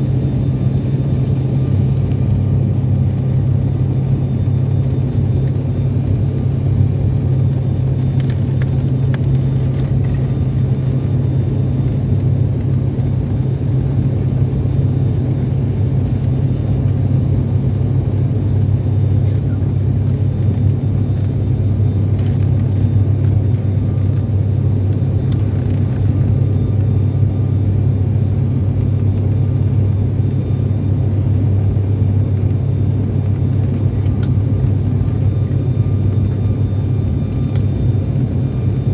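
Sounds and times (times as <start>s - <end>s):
airliner engine drone: 0.0s - 38.9s.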